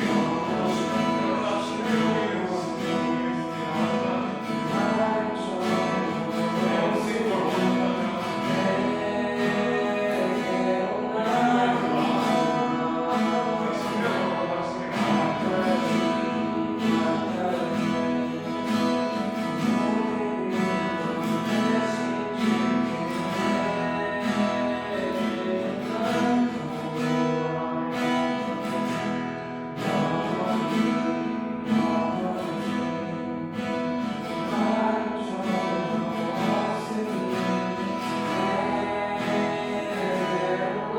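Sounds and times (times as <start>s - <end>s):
acoustic guitar strumming: 0.0s - 40.9s
person singing worship song: 0.0s - 40.9s.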